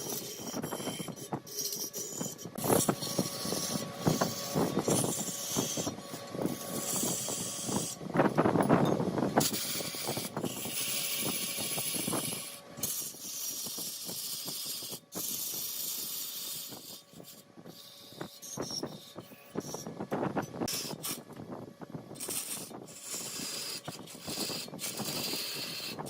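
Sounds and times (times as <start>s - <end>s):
wood lathe cutting hiss: 0.0s - 8.0s, 9.3s - 19.8s, 22.2s - 26.0s.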